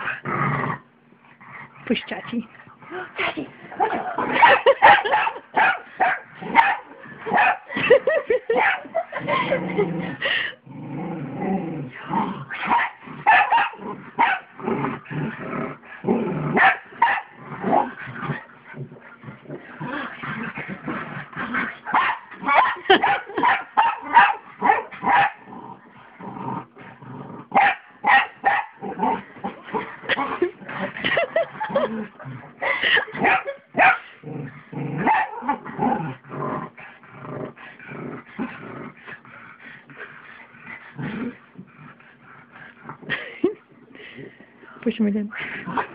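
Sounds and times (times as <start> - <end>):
small dogs growling and barking: 0.0 - 44.5, 45.4 - 45.9.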